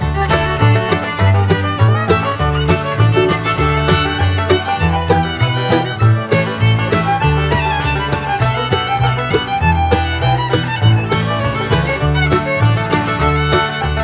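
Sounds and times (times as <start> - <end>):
bass line: 0.0 - 14.0
fiddle melody: 0.0 - 14.0
steady beat: 0.2 - 13.8.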